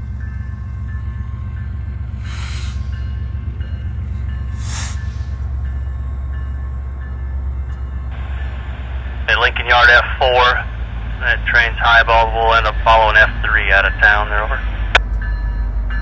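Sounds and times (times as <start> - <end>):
crossing bell ringing: 0.0 - 16.0
diesel locomotive rumble: 0.0 - 16.0.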